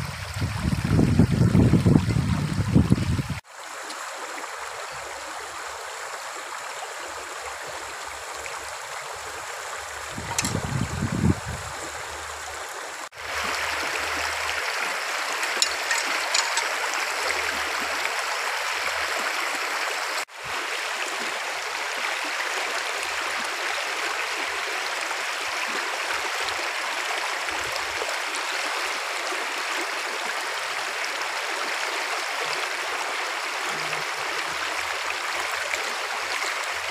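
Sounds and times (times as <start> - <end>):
stream burbling over stones: 0.0 - 36.9.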